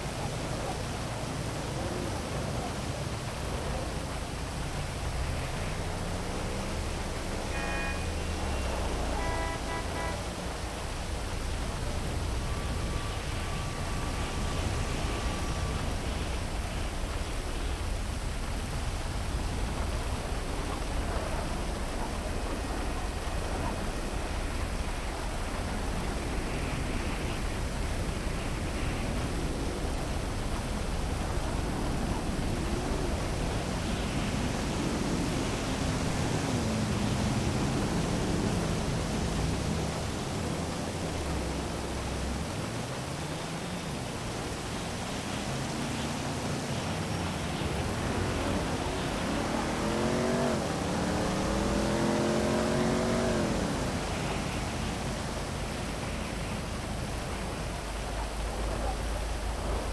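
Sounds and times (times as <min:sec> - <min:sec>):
heavy rain falling: 0:00.0 - 0:59.9
low engine hum: 0:00.0 - 0:59.9.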